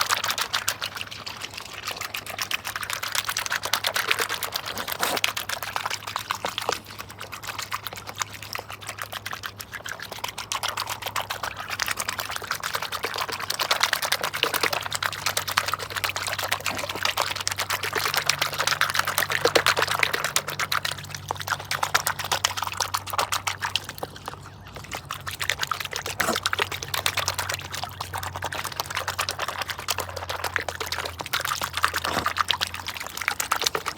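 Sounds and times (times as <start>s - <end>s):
swans dabbling water: 0.0s - 33.9s.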